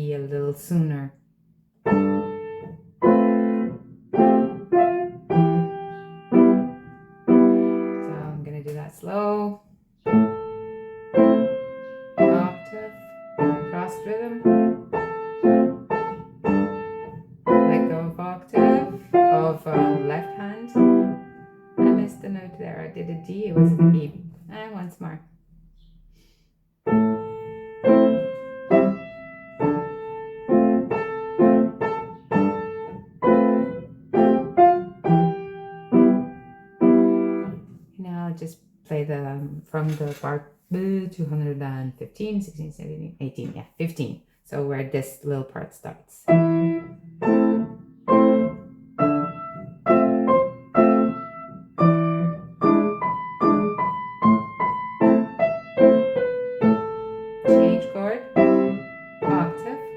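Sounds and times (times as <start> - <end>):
slow piano chords: 1.8 - 8.8, 9.7 - 26.1, 26.9 - 38.0, 46.3 - 59.9.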